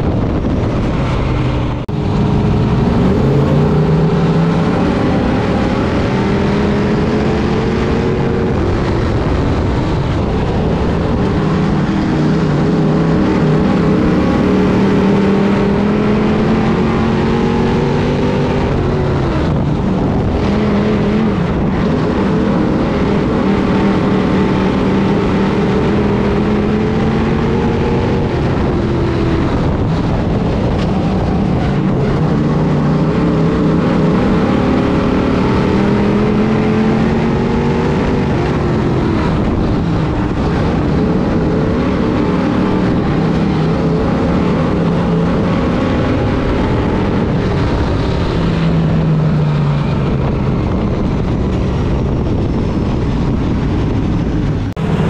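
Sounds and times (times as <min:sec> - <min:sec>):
racing car engine: 0:00.0 - 0:55.0
tyre and wind noise: 0:00.0 - 0:55.0.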